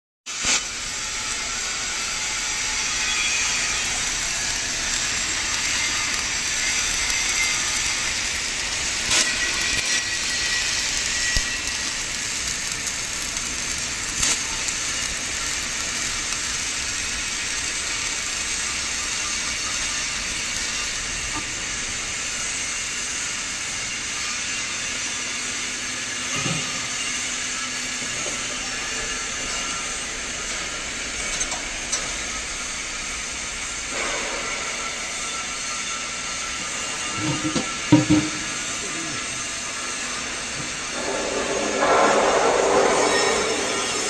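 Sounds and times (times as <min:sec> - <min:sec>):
hissing workshop machinery: 0:00.3 - 0:44.0.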